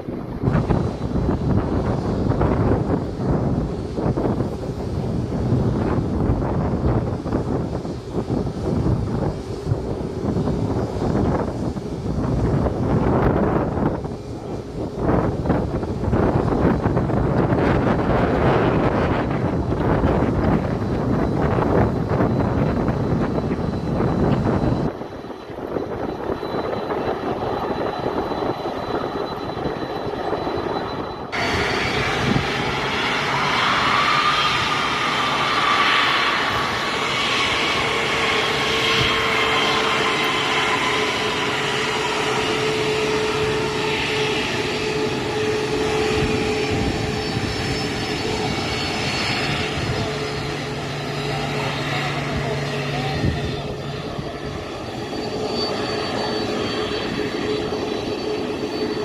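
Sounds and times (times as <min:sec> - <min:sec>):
jet engines running: 0:00.0 - 0:59.0
rising whine: 0:00.0 - 0:59.0.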